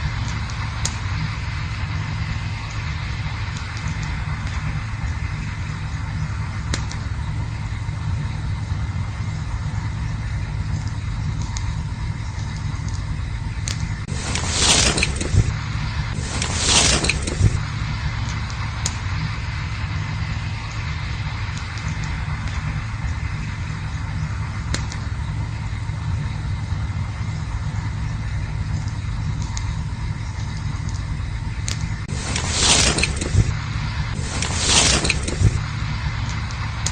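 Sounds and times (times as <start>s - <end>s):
campfire low rumble: 0.0s - 36.9s
fire crackles and pops: 0.0s - 36.9s
fire rushing hiss: 0.0s - 36.9s.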